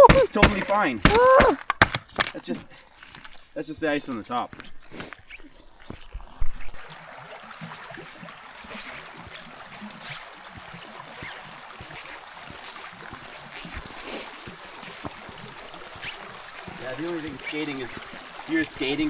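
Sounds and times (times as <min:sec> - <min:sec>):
creek water running: 0:00.0 - 0:03.4, 0:05.8 - 0:19.0.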